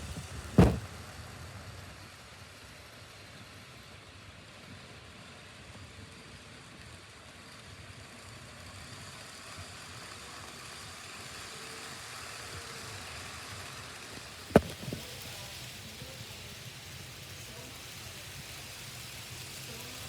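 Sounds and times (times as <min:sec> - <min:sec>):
model train motors whirring: 0:01.6 - 0:20.0.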